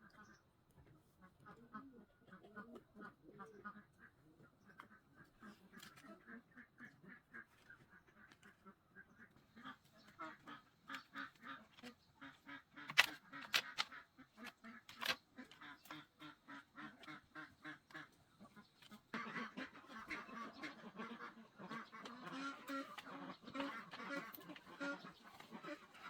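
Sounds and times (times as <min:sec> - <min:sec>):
ducks quacking: 0:01.2 - 0:26.0.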